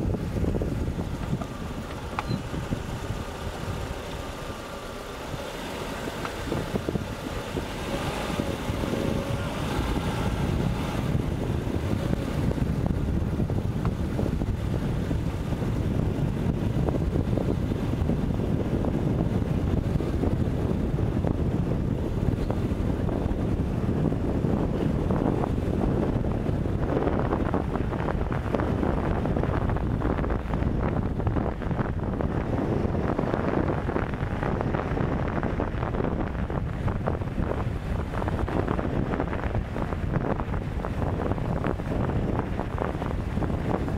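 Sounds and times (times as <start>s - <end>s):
car driving rumble: 0.0s - 43.9s
wind buffeting microphone: 0.0s - 43.9s.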